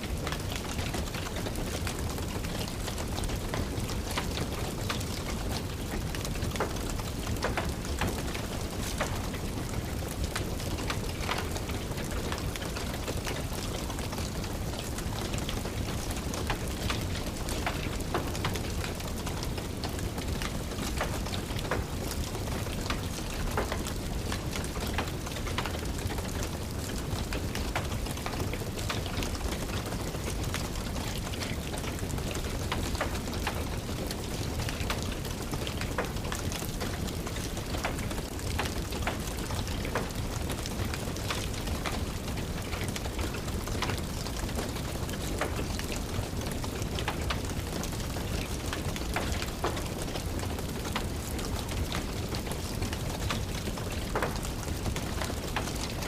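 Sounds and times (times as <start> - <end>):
steady rain hiss: 0.0 - 56.0
wood fire crackling and popping: 0.0 - 56.0.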